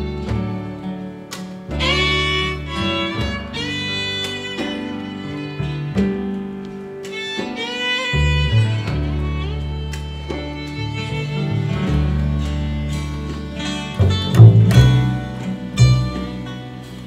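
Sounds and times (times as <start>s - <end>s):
small ensemble instrumental music: 0.0s - 17.0s.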